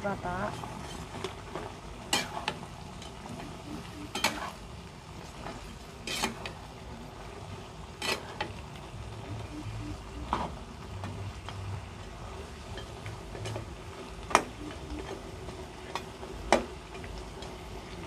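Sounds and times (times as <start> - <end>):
broth sizzling: 0.0 - 18.0.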